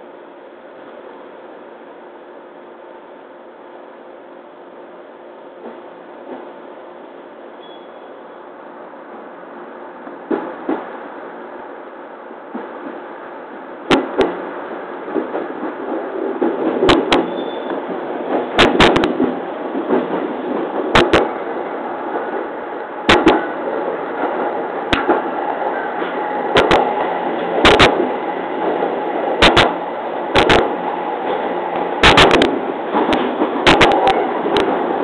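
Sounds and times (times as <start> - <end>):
electric train rolling rumble: 0.0 - 35.0.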